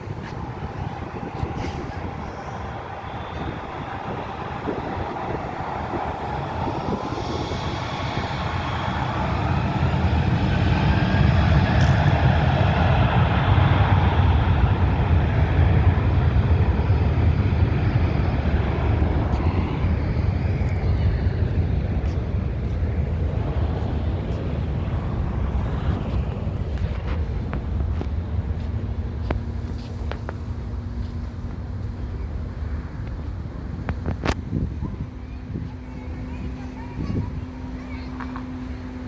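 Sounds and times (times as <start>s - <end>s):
jet engines flying past: 0.0s - 39.0s.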